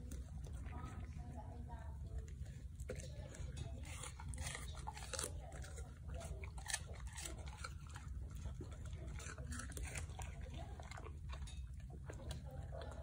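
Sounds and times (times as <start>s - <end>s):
dog crunching apple: 2.0s - 13.0s.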